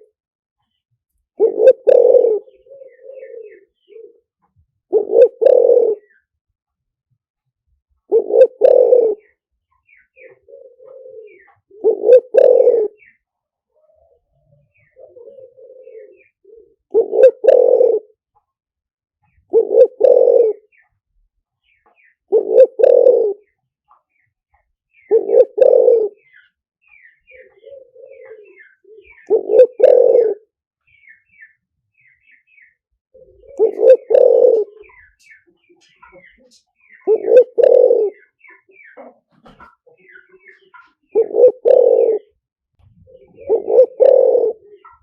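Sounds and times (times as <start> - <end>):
small birds chirping: 0.0 - 6.5, 8.2 - 18.6, 19.2 - 45.0
dove cooing: 1.4 - 6.3, 8.0 - 18.2, 19.2 - 20.9, 21.9 - 24.1, 25.0 - 30.5, 33.1 - 45.0.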